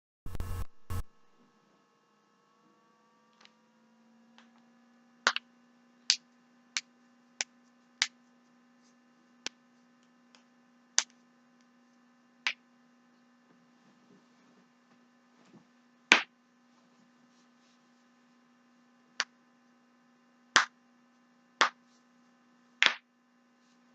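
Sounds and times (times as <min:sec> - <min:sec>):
faint steady hum: 0:00.2 - 0:23.9.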